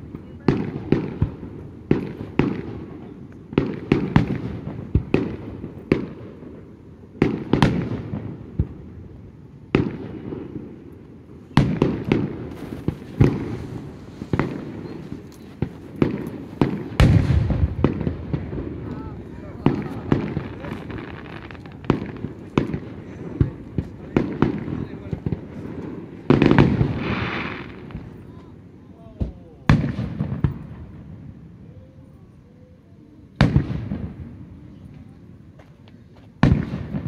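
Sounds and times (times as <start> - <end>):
fireworks bursting with echo: 0.0 - 32.2, 33.2 - 37.0.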